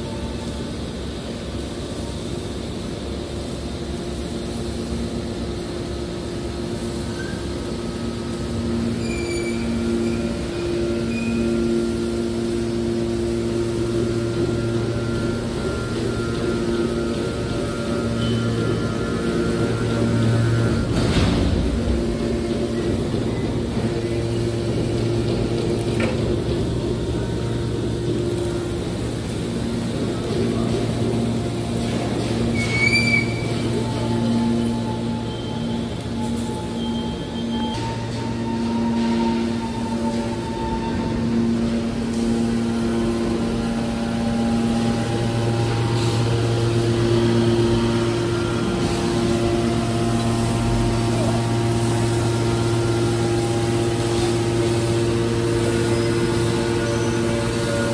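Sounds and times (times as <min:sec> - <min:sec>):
hydraulic power unit humming: 0:00.0 - 0:57.9.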